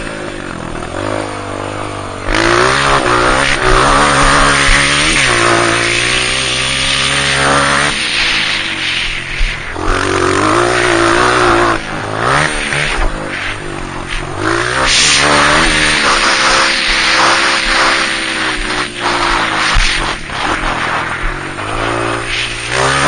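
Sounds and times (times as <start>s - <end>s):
dirt bike engine revving: 0.0s - 23.0s
steady rushing noise: 0.0s - 23.0s.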